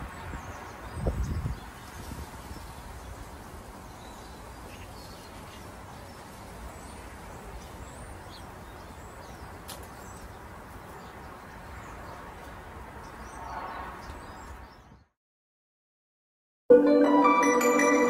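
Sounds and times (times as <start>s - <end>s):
birds chirping: 0.0s - 15.2s
outdoor background noise: 0.0s - 15.2s.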